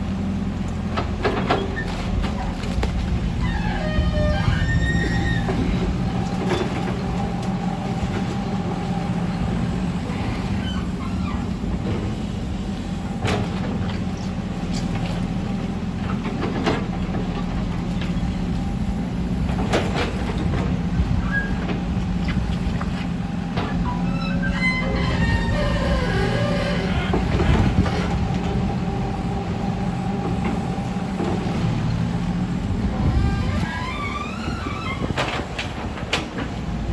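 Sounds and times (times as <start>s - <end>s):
excavator diesel engine under load: 0.0s - 36.9s.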